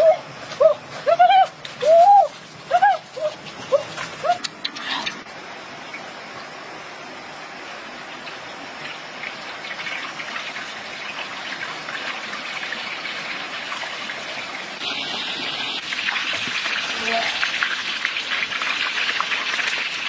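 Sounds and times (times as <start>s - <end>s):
stream water running over rocks: 0.0s - 20.0s.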